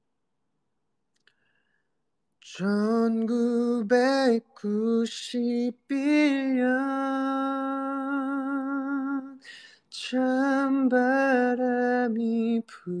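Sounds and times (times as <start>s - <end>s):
man singing unaccompanied: 2.4s - 13.0s.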